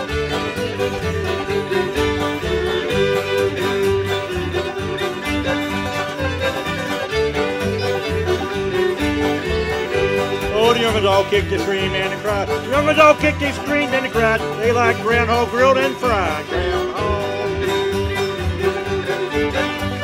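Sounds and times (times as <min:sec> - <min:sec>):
string band dance tune: 0:00.0 - 0:20.0.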